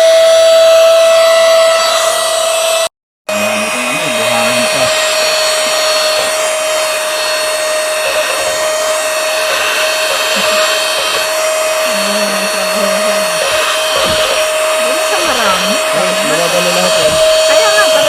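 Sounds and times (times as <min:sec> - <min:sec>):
handheld vacuum cleaner running: 0:00.0 - 0:18.0.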